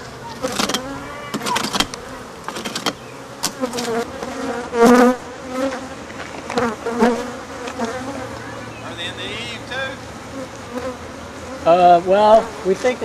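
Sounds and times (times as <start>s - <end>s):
bees buzzing in flight: 0.0s - 13.0s.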